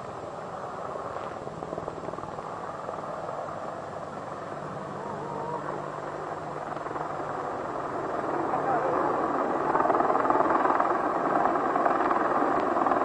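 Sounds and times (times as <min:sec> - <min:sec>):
helicopter rotor and turbine noise: 0:00.0 - 0:13.0.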